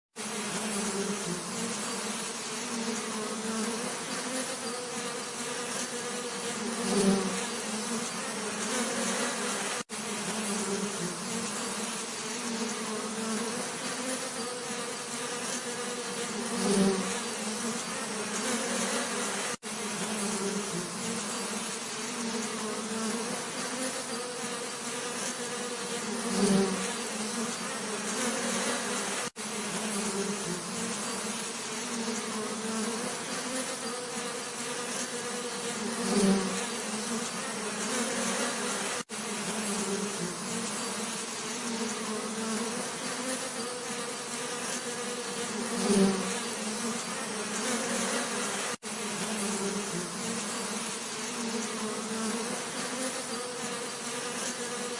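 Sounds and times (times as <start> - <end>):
bees buzzing: 0.2 - 54.9
close bee buzz: 0.2 - 54.9.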